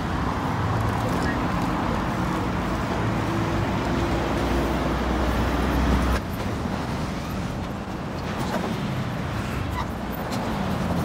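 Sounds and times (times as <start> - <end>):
general traffic noise: 0.0 - 11.0.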